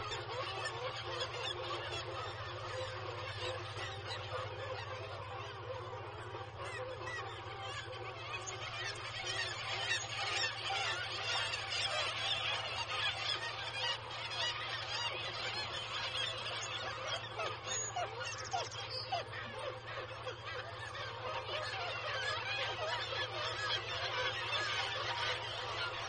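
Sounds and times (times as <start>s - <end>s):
seabirds calling: 0.0s - 26.0s
steady low hum: 0.0s - 26.0s.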